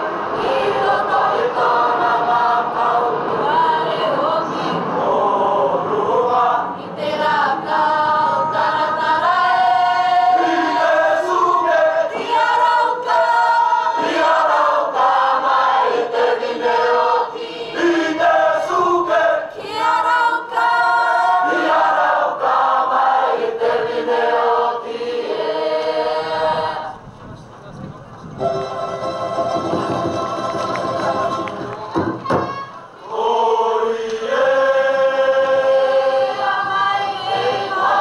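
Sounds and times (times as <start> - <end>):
choir of voices singing: 0.0 - 27.0, 28.5 - 38.0.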